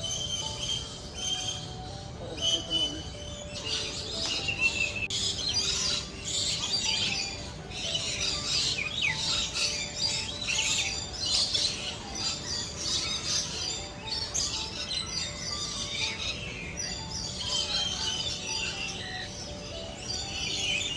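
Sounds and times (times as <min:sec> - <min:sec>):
background music: 0:00.0 - 0:20.9
birds chirping and squawking: 0:00.0 - 0:20.9.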